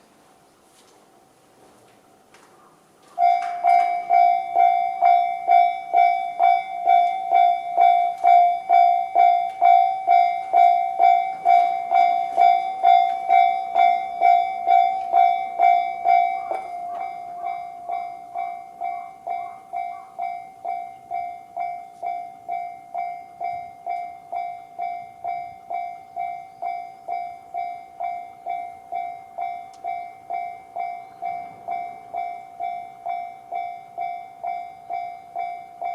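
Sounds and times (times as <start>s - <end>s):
level crossing electronic bell: 3.2s - 35.9s.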